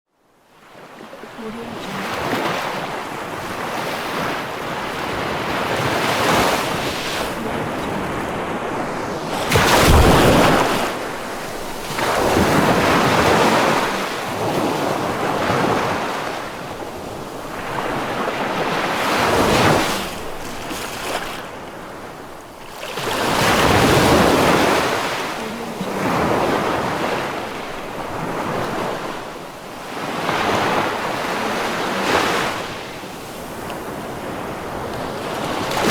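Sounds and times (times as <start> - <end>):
ocean waves breaking on shore: 0.3 - 35.9.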